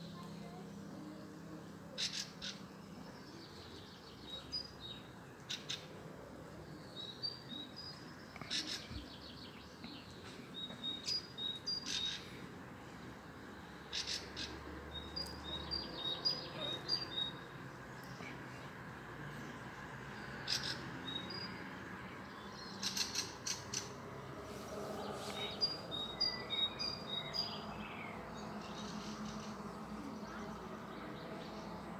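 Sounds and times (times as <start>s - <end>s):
songbird singing: 0.0s - 31.9s.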